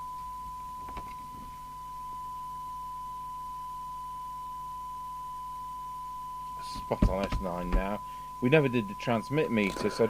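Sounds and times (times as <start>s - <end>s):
steady test tone: 0.0s - 10.0s.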